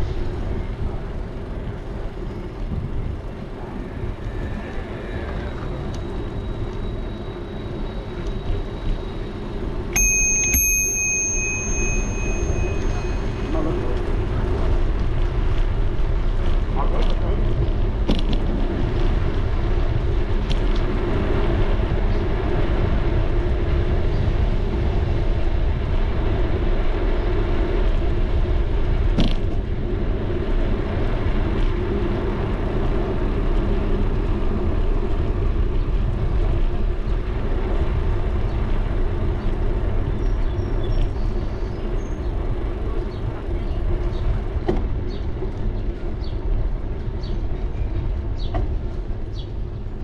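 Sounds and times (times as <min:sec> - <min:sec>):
bicycle tyre road noise: 0:00.0 - 0:50.0
wind on microphone: 0:00.0 - 0:50.0.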